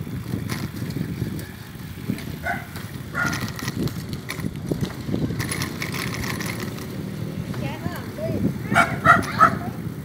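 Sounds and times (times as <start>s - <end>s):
bicycle rattling clicks: 0.0s - 8.2s, 8.8s - 9.7s
road rumble: 0.0s - 10.0s
wind buffeting: 0.0s - 10.0s.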